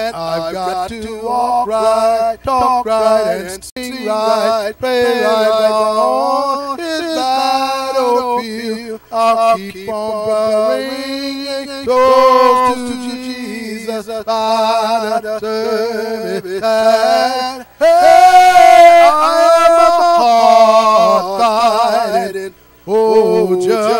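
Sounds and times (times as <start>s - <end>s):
man singing a hymn unaccompanied: 0.0s - 23.9s.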